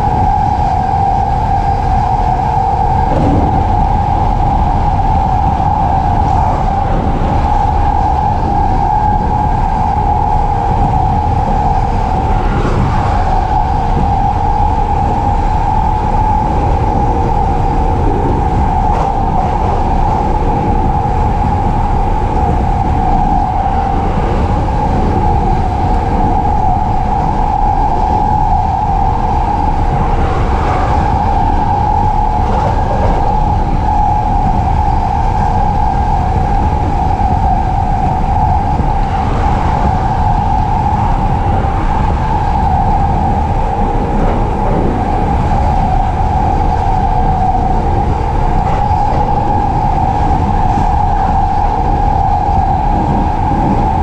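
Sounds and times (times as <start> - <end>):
train droning hum: 0.0 - 54.0
wheels rumbling on rails: 0.0 - 54.0.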